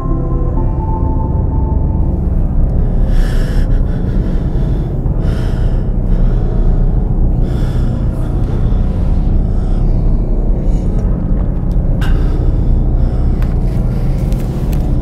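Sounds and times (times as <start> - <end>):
low rumbling drone: 0.0 - 15.0
person breathing heavily: 2.1 - 15.0.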